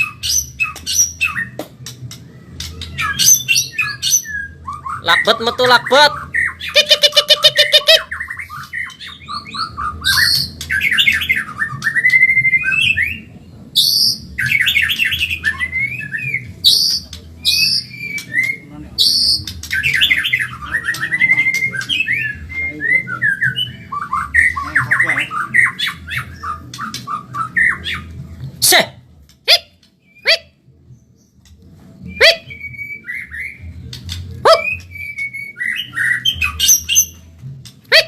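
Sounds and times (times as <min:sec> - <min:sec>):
bird singing varied song: 0:00.0 - 0:28.8, 0:29.4 - 0:38.0.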